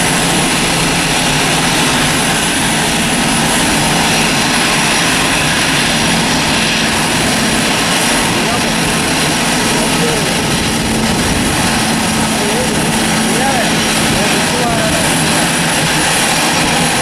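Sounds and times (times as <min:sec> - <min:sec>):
jet engines roaring and whining: 0:00.0 - 0:17.0.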